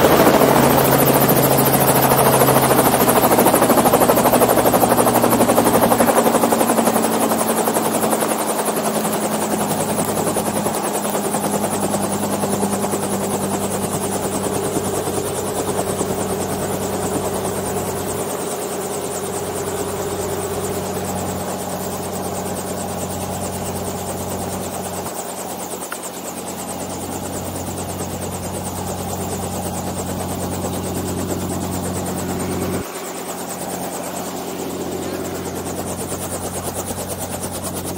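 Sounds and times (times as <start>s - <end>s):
helicopter engine and rotor running: 0.0s - 37.9s.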